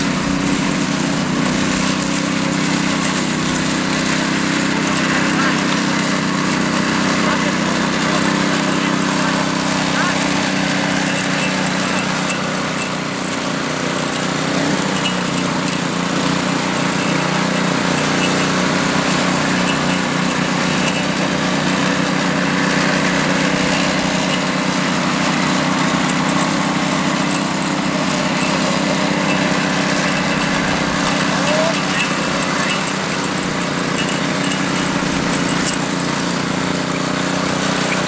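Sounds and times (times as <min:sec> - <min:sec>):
power trowel petrol engine running: 0:00.0 - 0:38.0.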